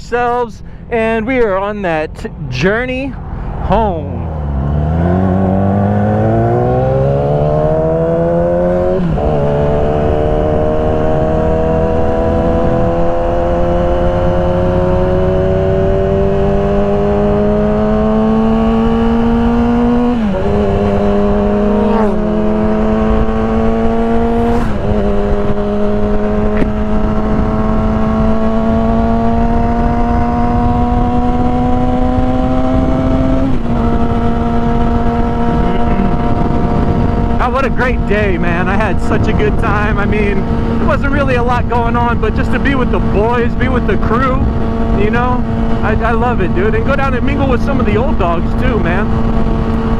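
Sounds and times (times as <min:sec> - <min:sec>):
road and wind noise: 0:00.0 - 0:49.9
motorcycle engine accelerating: 0:03.5 - 0:49.9.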